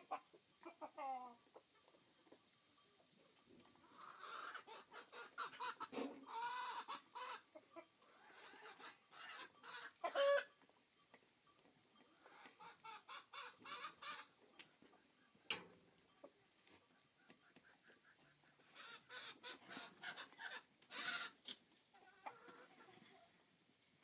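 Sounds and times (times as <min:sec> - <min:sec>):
chickens clucking: 0:00.0 - 0:23.6.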